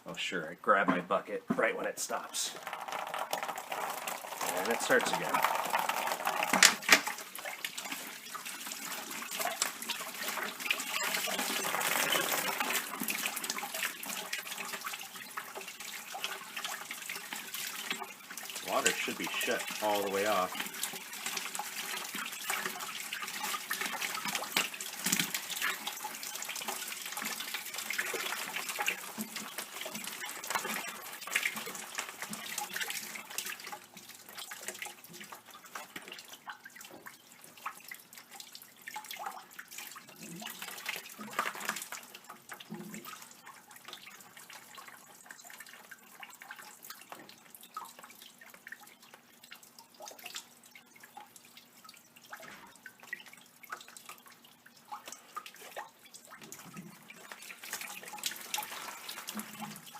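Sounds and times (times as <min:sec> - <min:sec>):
water draining and splashing: 0:00.9 - 0:59.9
water dripping: 0:01.6 - 0:59.9.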